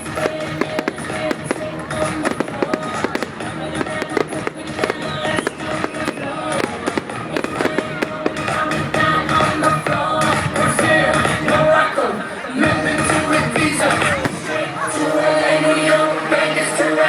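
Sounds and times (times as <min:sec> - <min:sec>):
fireworks bangs and crackles: 0:00.0 - 0:11.7, 0:12.7 - 0:14.8
music: 0:00.0 - 0:17.0.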